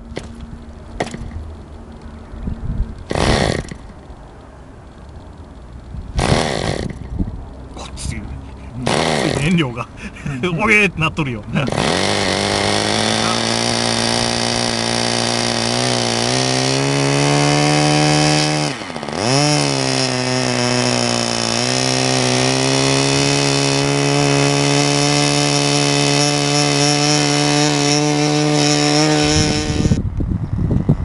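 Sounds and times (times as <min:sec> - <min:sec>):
model airplane engine buzzing: 0:00.0 - 0:03.9, 0:05.0 - 0:07.2, 0:08.5 - 0:10.7, 0:11.4 - 0:30.9.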